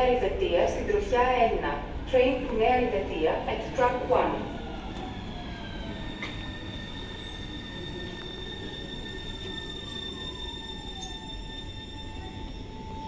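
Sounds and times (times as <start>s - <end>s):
electric train drive whine: 0.0s - 13.0s
high-pitched tones: 0.0s - 13.0s
train rumble: 0.0s - 13.0s.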